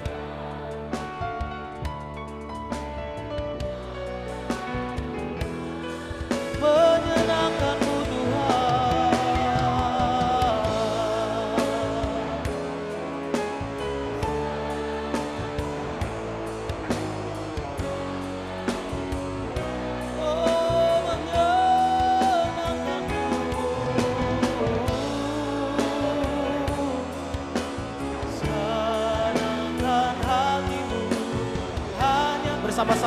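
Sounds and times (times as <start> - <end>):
drum strokes: 0.0 - 33.0
worship band playing: 0.0 - 33.0.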